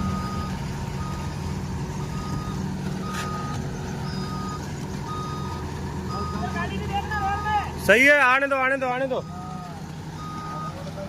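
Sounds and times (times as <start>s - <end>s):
reverse alarm beeping: 0.0s - 1.4s, 2.0s - 7.7s, 9.0s - 10.8s
diesel engine running: 0.0s - 11.0s.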